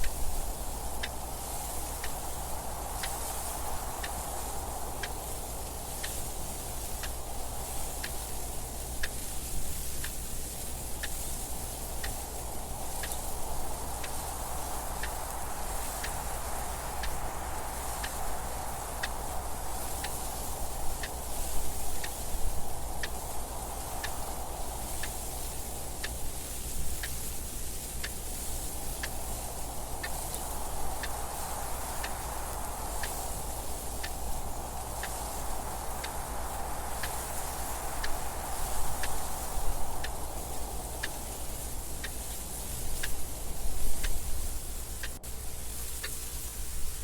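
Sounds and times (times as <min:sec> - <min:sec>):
clock ticking: 0:00.0 - 0:26.3, 0:28.0 - 0:45.4, 0:46.0 - 0:46.4
wind noise: 0:00.0 - 0:47.0.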